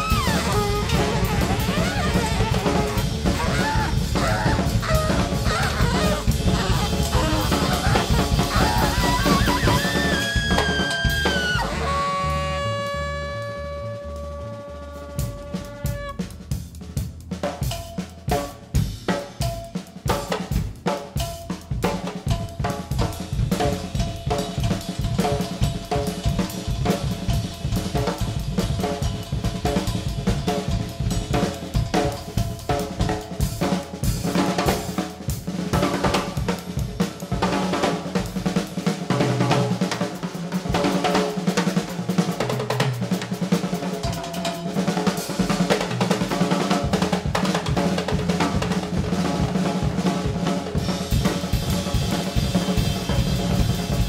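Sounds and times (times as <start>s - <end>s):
drum kit playing: 0.0s - 54.0s.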